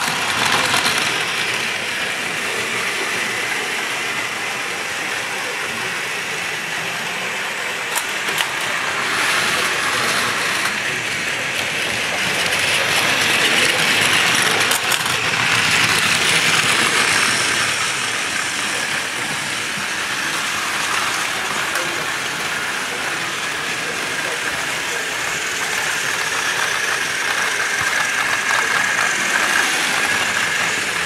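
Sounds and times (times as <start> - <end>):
wheels rattling on plastic track: 0.0 - 3.1, 7.6 - 31.0
toy train motors whirring: 0.0 - 31.0.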